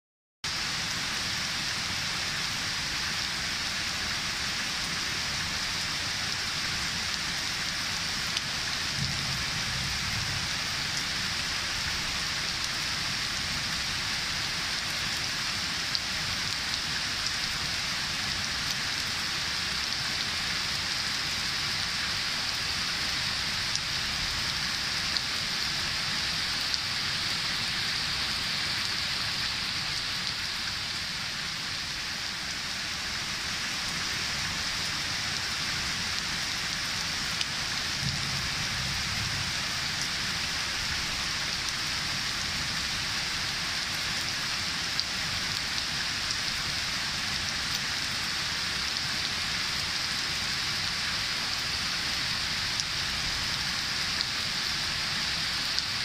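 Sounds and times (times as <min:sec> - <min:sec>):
heavy rain falling: 0:00.5 - 0:56.0.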